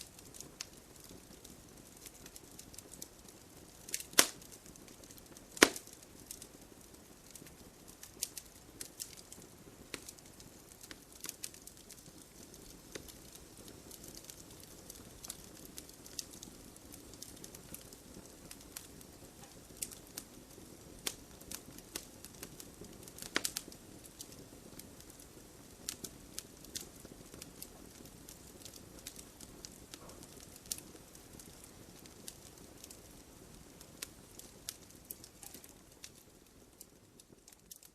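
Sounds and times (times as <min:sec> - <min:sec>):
logs burning with crackles: 0:00.0 - 0:37.9.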